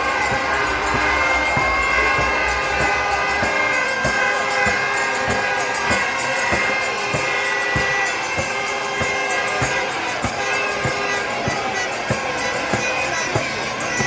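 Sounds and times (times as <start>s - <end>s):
crowd noise: 0.0s - 14.0s
music with thumping beat: 0.0s - 14.0s.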